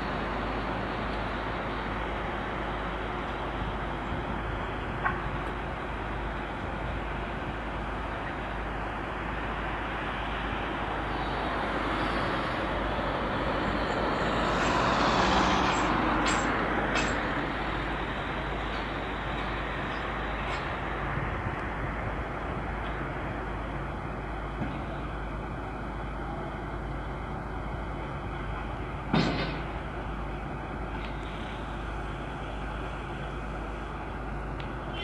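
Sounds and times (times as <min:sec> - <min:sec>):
heavy vehicle engines: 0:00.0 - 0:35.0.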